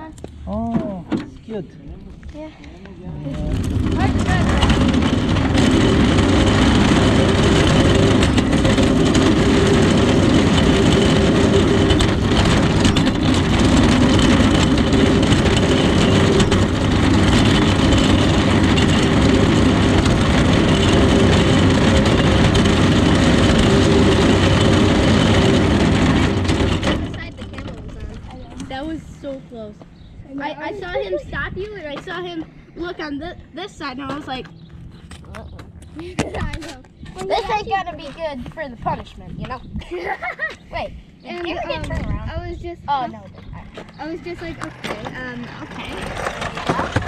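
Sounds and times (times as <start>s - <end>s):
vehicle engine and road noise: 0.0s - 47.0s.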